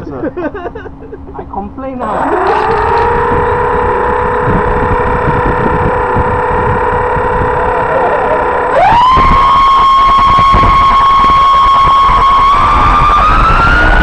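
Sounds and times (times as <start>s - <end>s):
model plane electric motors whining: 2.0s - 14.0s.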